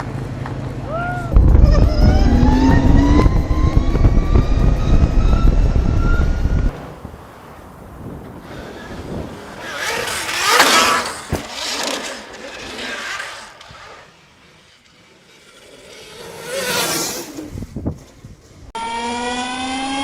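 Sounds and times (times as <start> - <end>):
electric motorcycles passing by: 0.0 - 20.0.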